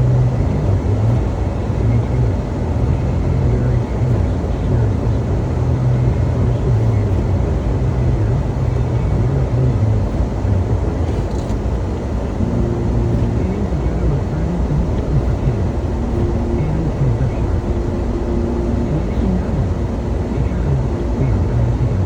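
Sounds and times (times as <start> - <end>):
engine low rumble: 0.0 - 22.0
higher hum: 0.0 - 22.0.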